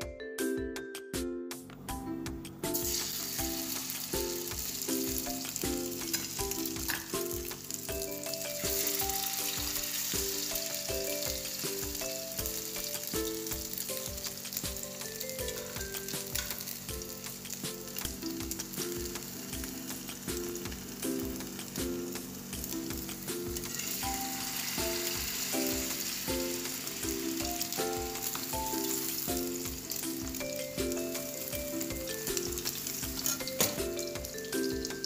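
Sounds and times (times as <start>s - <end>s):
music with a steady beat: 0.0s - 35.0s
meat sizzling in a pan: 2.8s - 35.0s.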